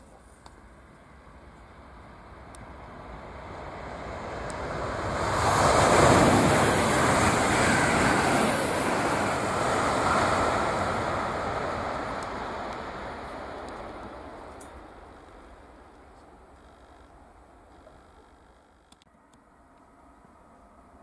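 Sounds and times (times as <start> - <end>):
high-speed train passing: 0.3 - 18.5.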